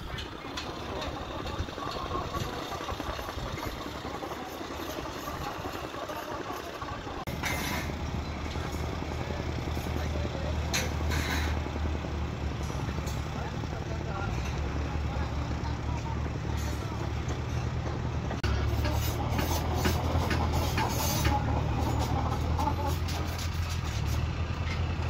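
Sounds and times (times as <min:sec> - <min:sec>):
faint voices: 0:00.0 - 0:25.0
heavy engine running: 0:00.0 - 0:25.0.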